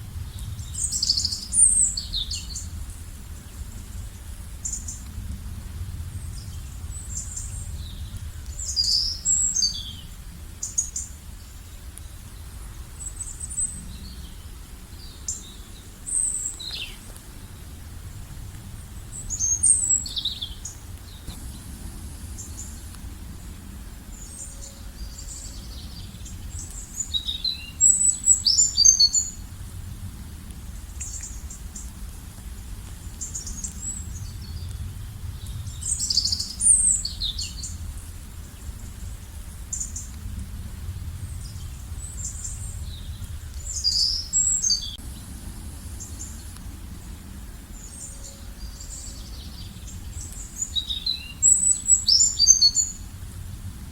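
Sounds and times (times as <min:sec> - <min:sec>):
steady low rumble: 0:00.0 - 0:53.9
songbirds chirping and trilling: 0:06.1 - 0:30.0, 0:32.8 - 0:40.3, 0:40.9 - 0:53.2.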